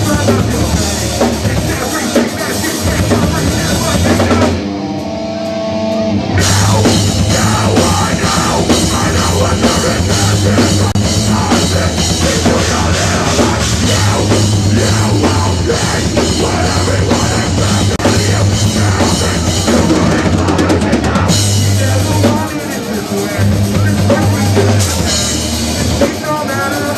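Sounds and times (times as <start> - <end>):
heavy rock band playing: 0.0 - 26.9
pounding drum kit and cymbals: 0.0 - 26.9.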